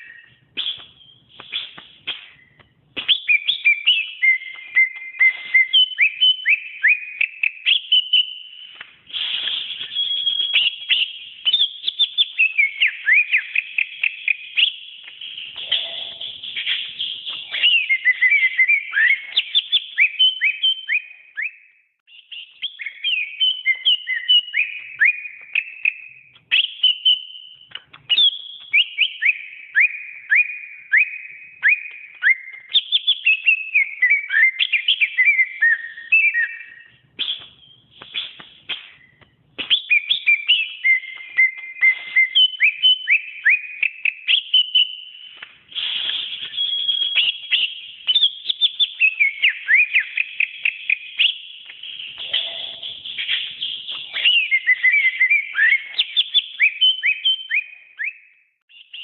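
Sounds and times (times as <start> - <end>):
bird whistled song: 0.0 - 59.0.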